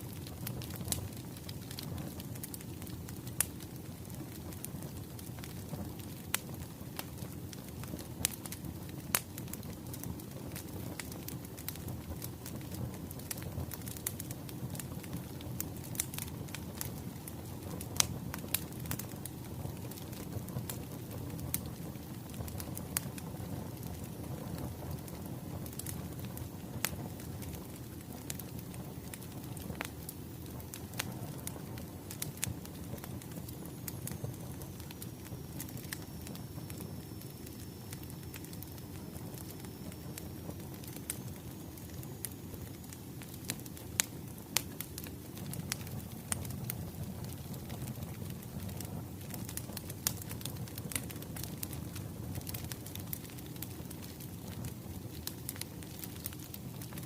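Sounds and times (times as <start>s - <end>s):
wood fire crackling: 0.0s - 57.0s
sharp pops of burning logs: 0.1s - 57.0s.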